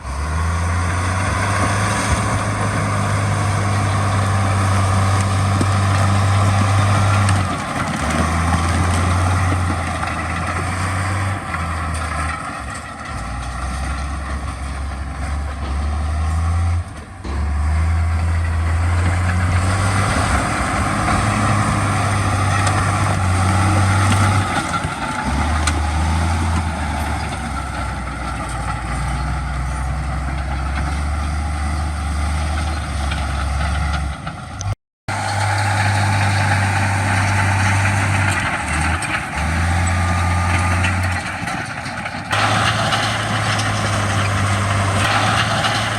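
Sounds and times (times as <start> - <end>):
heavy diesel engine under load: 0.0 - 45.9.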